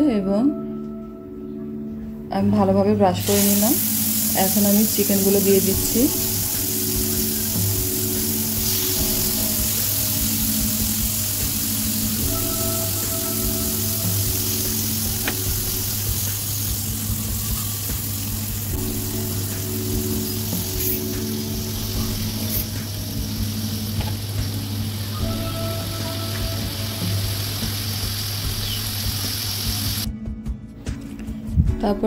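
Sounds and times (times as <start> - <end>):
soft background music: 0.0 - 32.0
chicken sizzling in butter: 3.2 - 30.1.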